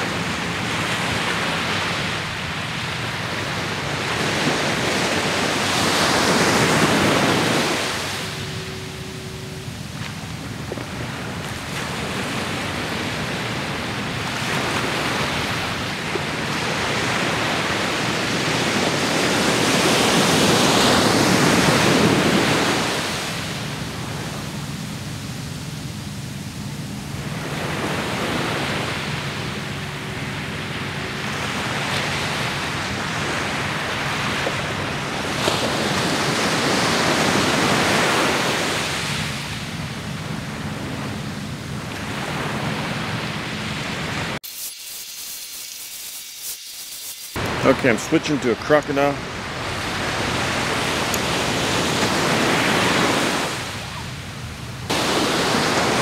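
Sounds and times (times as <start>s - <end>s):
ocean surf breaking: 0.0s - 44.4s, 47.4s - 56.0s.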